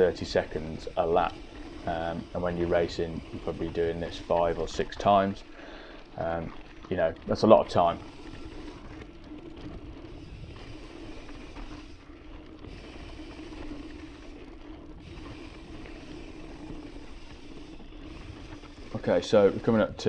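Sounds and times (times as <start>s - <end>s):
bike rattling: 0.0s - 20.0s
tyres rolling over dirt: 0.0s - 20.0s.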